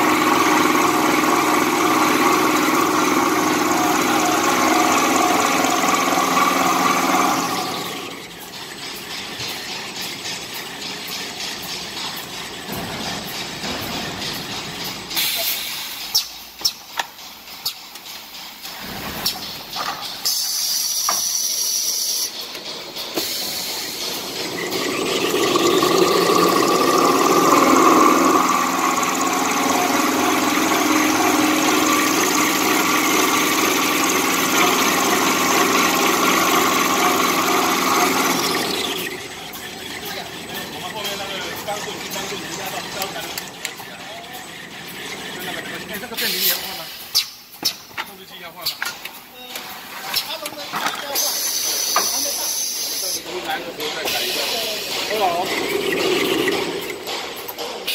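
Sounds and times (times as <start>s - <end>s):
machine hum: 0.0s - 15.4s, 17.2s - 47.5s, 49.1s - 57.9s
paper machine line running: 0.0s - 57.9s.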